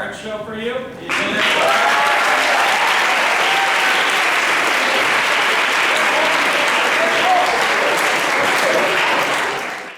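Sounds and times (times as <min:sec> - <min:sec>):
audience applauding: 0:01.1 - 0:09.9
cheers and voices: 0:01.2 - 0:09.5.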